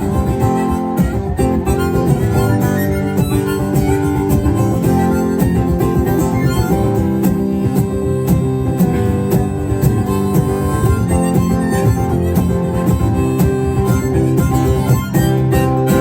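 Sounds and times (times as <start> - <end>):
acoustic guitar strumming: 0.0 - 16.0
harmonica playing: 0.0 - 16.0.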